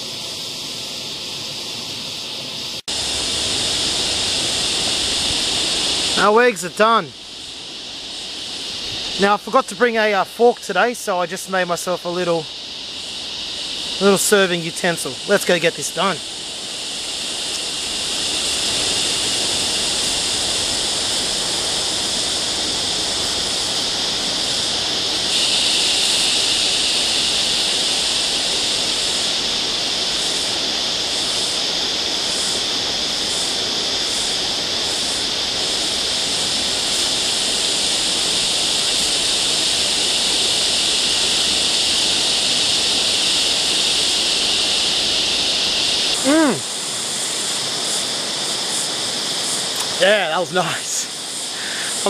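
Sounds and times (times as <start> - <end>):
cicadas buzzing: 0.0 - 52.0.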